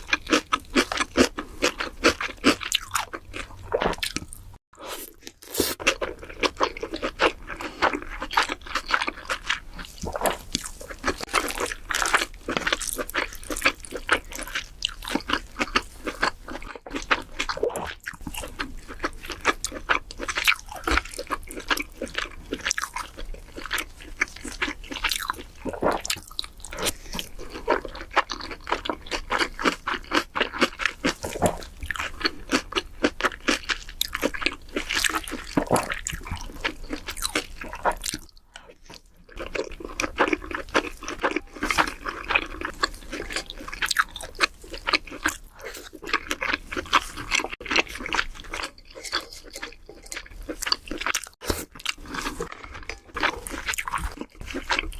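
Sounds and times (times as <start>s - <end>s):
person crunching and chewing: 0.0s - 54.9s.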